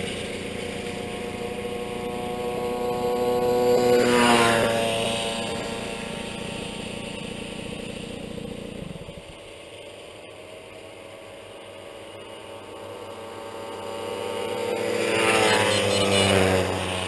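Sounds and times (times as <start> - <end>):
moped engine buzzing away: 0.0 - 17.0
moped engines approaching: 0.0 - 17.0.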